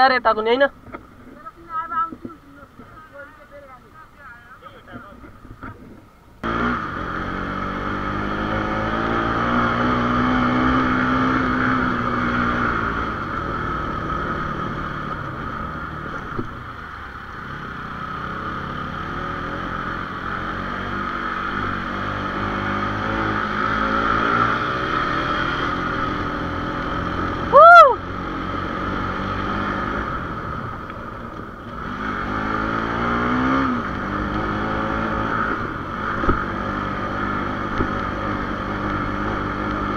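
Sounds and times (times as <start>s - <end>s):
motorcycle engine on dirt road: 0.0s - 39.9s.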